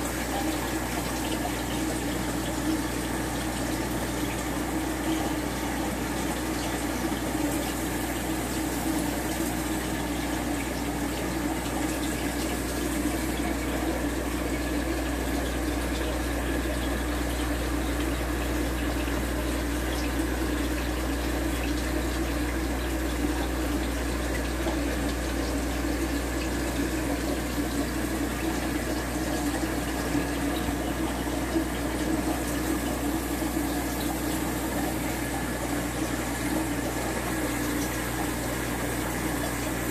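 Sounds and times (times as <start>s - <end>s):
water washing in aquarium filter: 0.0s - 39.9s.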